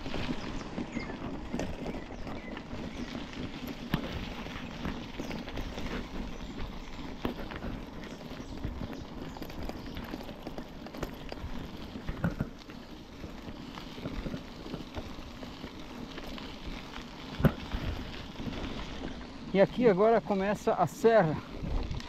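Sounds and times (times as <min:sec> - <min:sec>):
bike rattling over bumps: 0:00.0 - 0:22.0.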